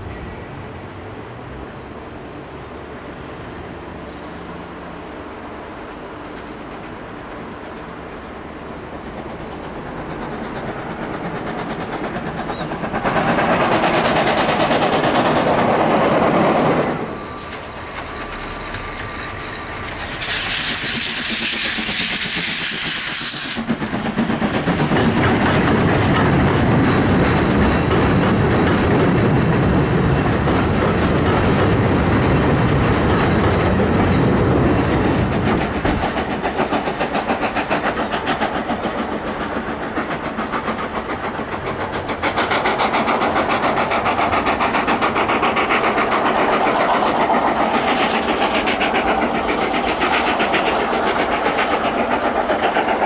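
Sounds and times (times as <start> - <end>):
coaches rolling over rails: 0.0 - 53.0
steam engine exhaust beat: 8.8 - 53.0.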